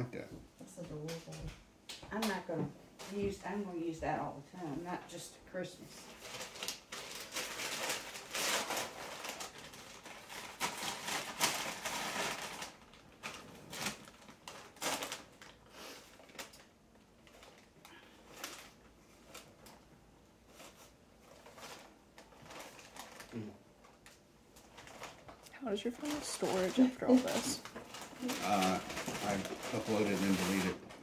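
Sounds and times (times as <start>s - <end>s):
paper rustling and crinkling: 6.0s - 31.0s.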